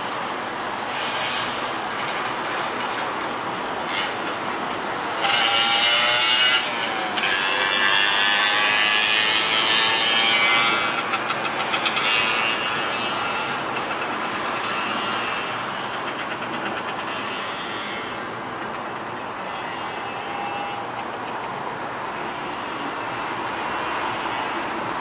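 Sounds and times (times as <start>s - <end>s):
train rumbling past: 0.0s - 25.0s
train wheels clattering: 0.9s - 21.6s.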